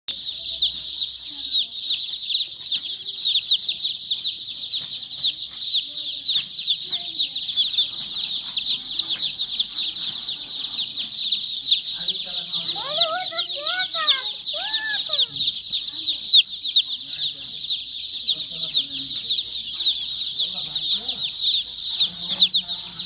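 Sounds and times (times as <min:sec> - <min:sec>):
chicks peeping: 0:00.1 - 0:23.0.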